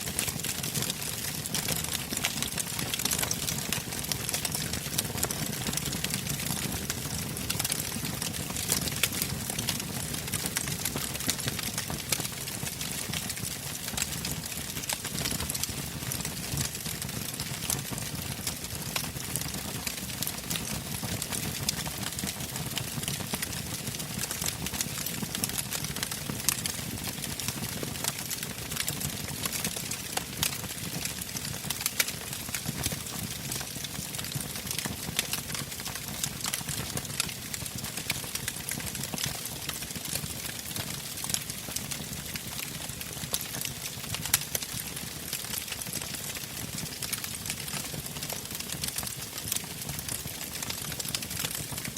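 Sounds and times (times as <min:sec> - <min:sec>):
bonfire crackling and popping: 0:00.0 - 0:51.9.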